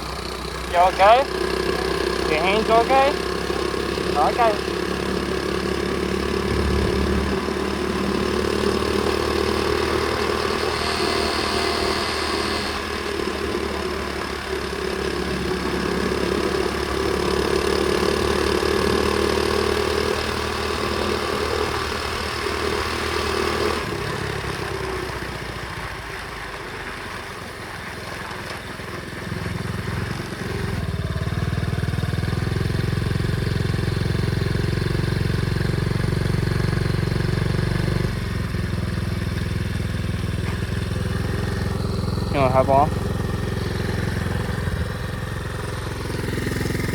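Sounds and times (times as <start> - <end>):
pit bike engine running: 0.0 - 46.9.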